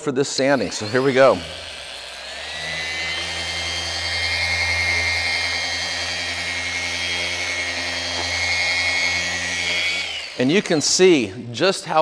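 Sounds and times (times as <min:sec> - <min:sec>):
orbital sander whining: 0:00.0 - 0:12.0.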